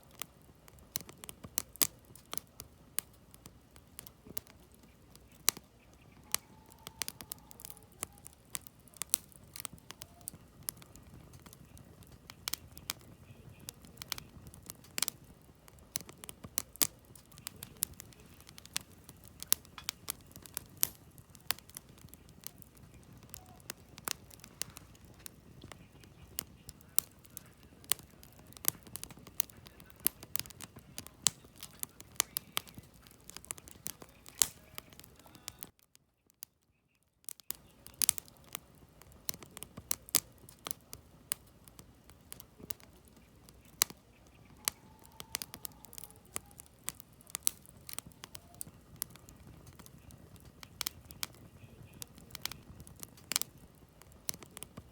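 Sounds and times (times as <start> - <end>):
low rush of flame: 0.0 - 35.8, 37.5 - 54.9
logs crackling and popping: 0.0 - 54.9.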